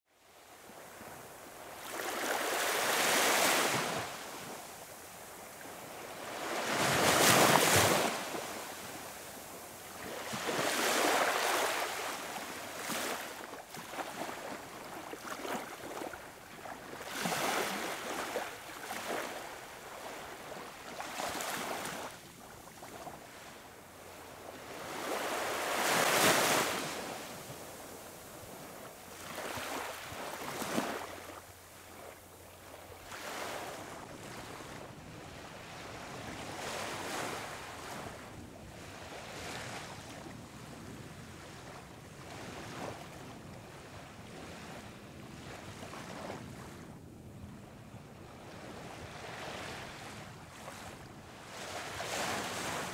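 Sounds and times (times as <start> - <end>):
small waves washing on beach: 0.3 - 47.0, 47.7 - 52.9.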